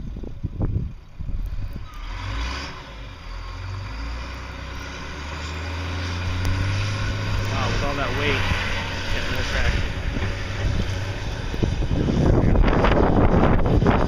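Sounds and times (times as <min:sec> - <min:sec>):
vehicle engine under heavy load: 0:00.0 - 0:14.0.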